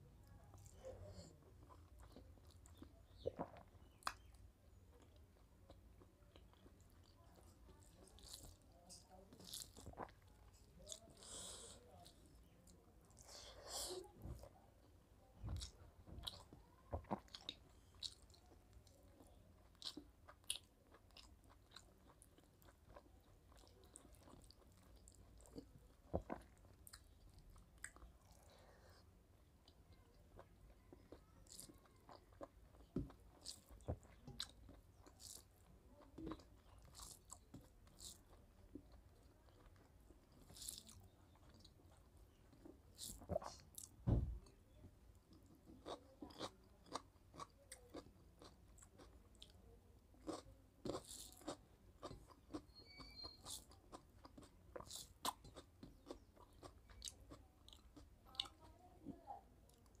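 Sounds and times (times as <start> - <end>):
person chewing and smacking: 0.2 - 13.4, 14.2 - 58.6.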